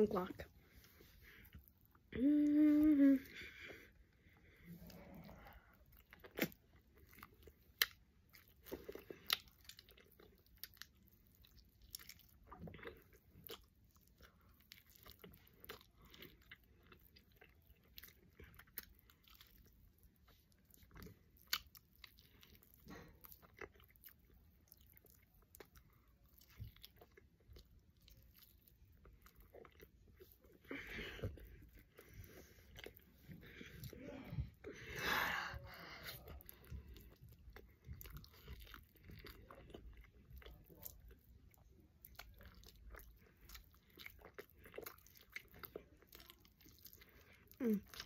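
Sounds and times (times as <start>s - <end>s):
person chewing: 0.2s - 48.0s.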